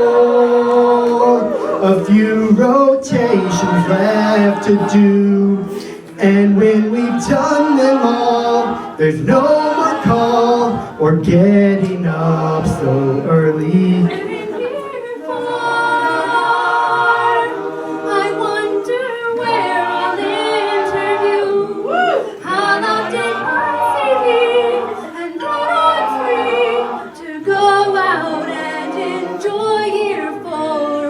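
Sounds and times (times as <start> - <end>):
group singing a cappella: 0.0 - 31.0.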